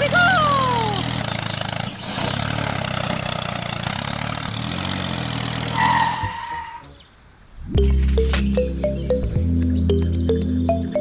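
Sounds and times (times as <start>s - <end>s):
tractor engine running: 0.0s - 5.7s, 7.6s - 11.0s.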